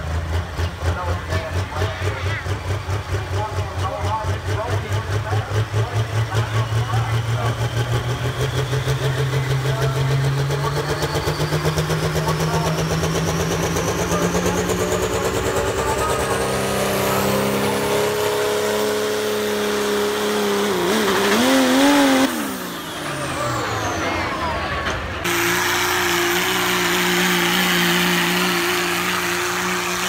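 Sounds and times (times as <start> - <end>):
diesel engine under full load: 0.0 - 30.0.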